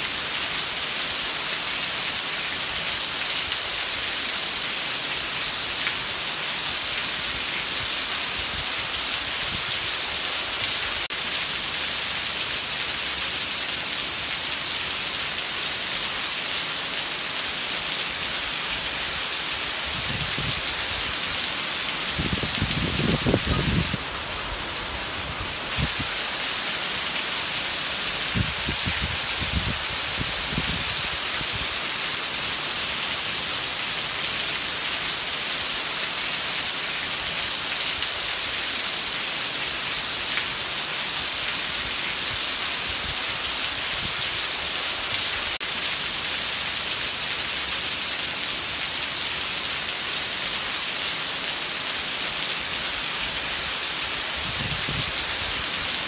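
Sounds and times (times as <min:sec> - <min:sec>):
heavy rain splashing: 0:00.0 - 0:56.0.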